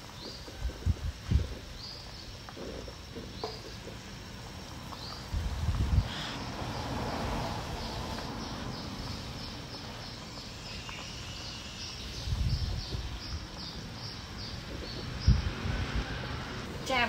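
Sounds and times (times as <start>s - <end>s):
bird chirping: 0.0s - 17.0s
pot boiling and bubbling: 0.0s - 17.0s.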